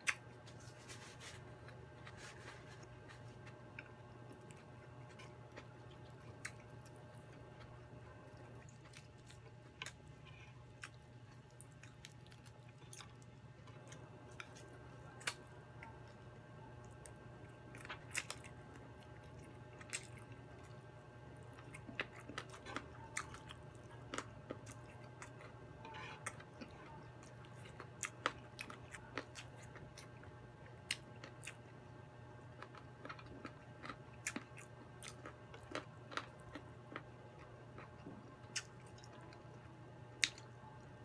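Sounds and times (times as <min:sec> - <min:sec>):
faint low hum: 0:00.0 - 0:41.0
food crunching: 0:00.0 - 0:41.0.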